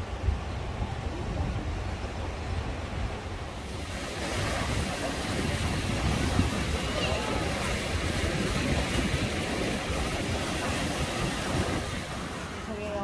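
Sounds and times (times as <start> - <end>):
surf washing over rocks: 0.0 - 13.0
wind buffeting microphone: 0.0 - 13.0.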